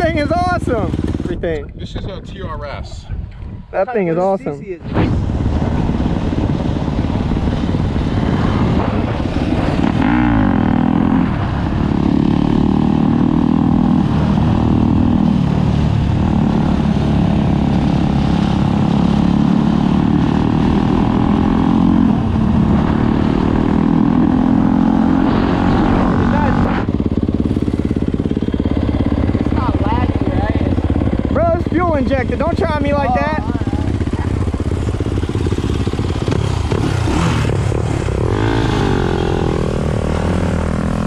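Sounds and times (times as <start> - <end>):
dirt bike engine revving: 0.0 - 1.4, 5.5 - 41.0
quad engine running: 0.0 - 1.7, 5.3 - 41.0.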